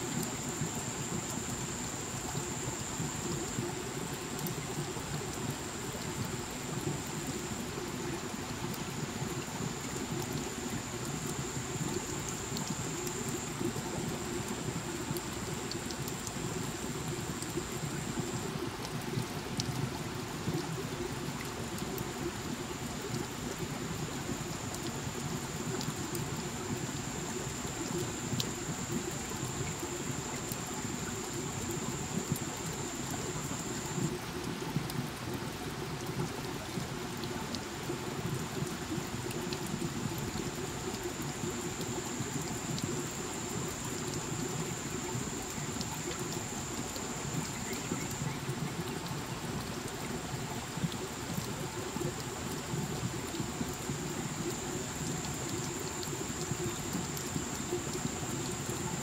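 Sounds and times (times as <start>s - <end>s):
water trickling over rock: 0.0s - 59.0s.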